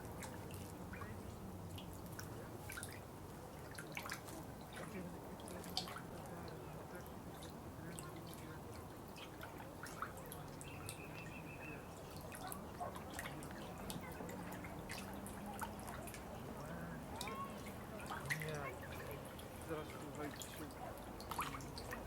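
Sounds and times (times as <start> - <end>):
water dripping and trickling: 0.0 - 22.0.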